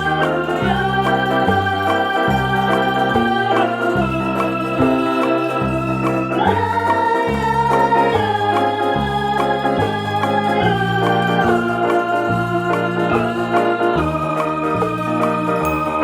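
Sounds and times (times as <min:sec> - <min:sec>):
bass line: 0:00.0 - 0:16.0
organ-like chords: 0:00.0 - 0:16.0.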